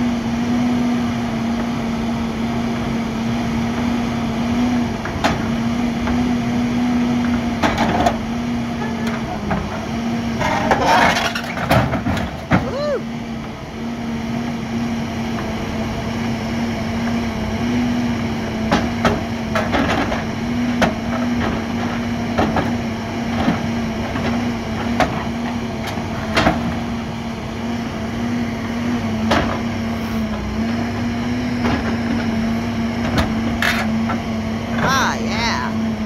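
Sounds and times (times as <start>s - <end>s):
diesel engine humming: 0.0s - 36.0s.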